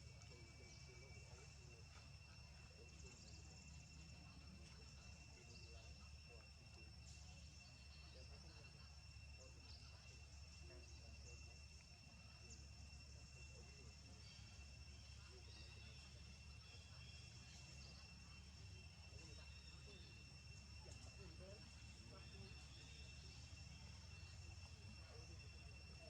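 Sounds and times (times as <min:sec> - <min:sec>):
high-pitched insect trill: 0:00.0 - 0:26.0
low background hum: 0:00.0 - 0:26.0.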